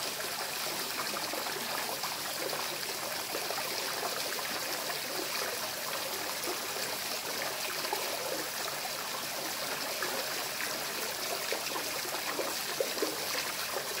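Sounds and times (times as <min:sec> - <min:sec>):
pond water trickling: 0:00.0 - 0:14.0.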